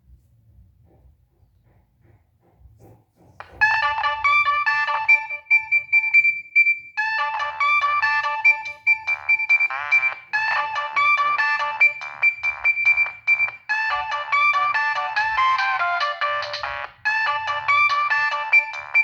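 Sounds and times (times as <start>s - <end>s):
polyphonic phone ringtone: 3.5s - 19.0s.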